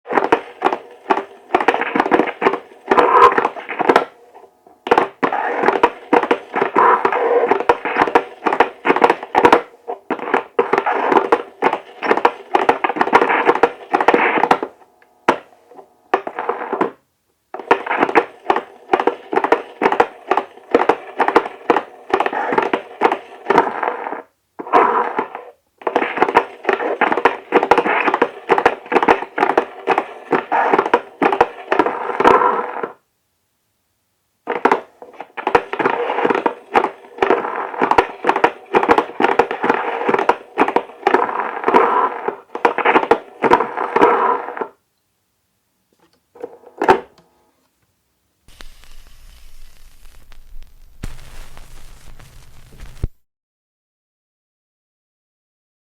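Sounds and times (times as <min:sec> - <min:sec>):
stylus scratching over a disc: 0:00.1 - 0:14.7, 0:15.3 - 0:17.0, 0:17.6 - 0:33.0, 0:34.5 - 0:44.7, 0:48.5 - 0:53.2.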